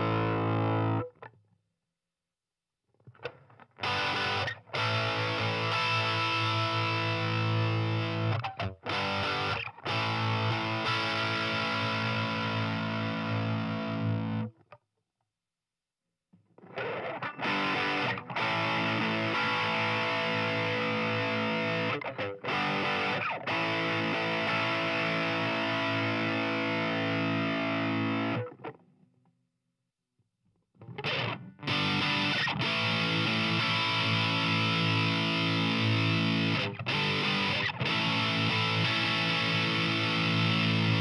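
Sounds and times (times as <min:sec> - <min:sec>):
distorted electric guitar riff: 0:00.0 - 0:01.2, 0:03.2 - 0:14.6, 0:16.6 - 0:28.8, 0:30.8 - 0:41.0.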